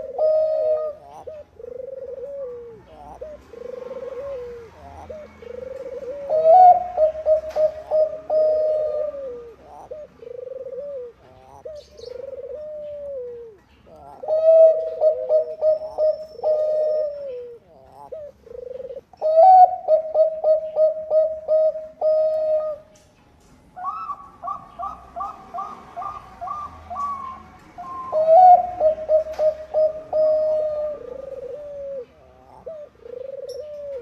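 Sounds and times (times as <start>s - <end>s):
dove cooing: 0.0s - 23.1s, 23.7s - 34.0s.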